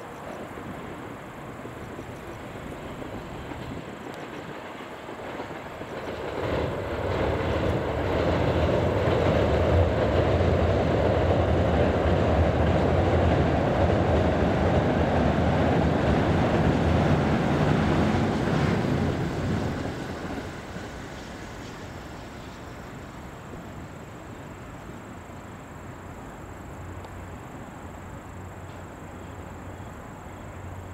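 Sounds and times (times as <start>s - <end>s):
train running past: 0.0s - 30.9s.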